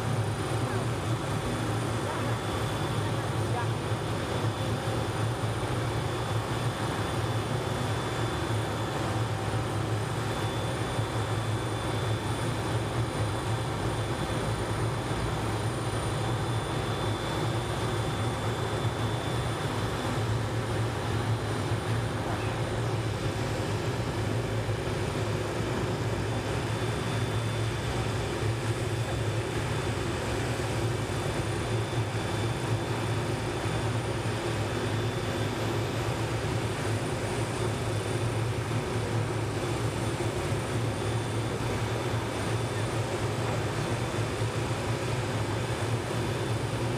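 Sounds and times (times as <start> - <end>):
helicopter turbine and rotor: 0.0 - 46.9.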